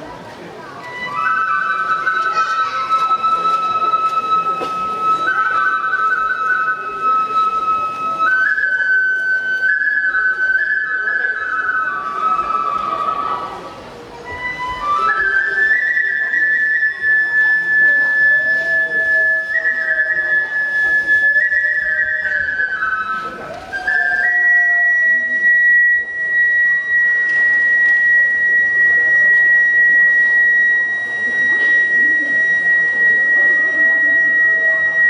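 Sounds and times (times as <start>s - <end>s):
bamboo flute melody: 0.0s - 35.0s.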